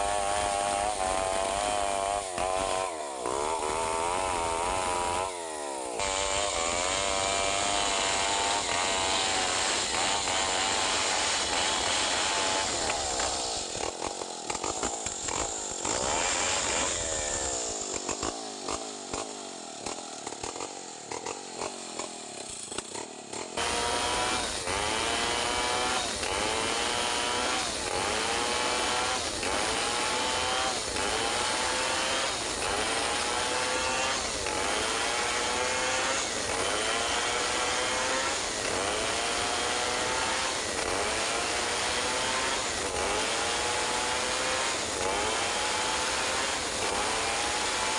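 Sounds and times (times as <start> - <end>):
chainsaw cutting log: 0.0 - 47.9.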